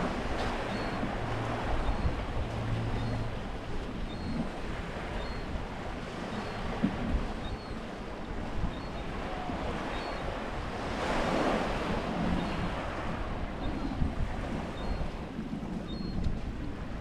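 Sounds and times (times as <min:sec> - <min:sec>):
small waves breaking: 0:00.0 - 0:15.5
wind rumbling on microphone: 0:00.0 - 0:17.0.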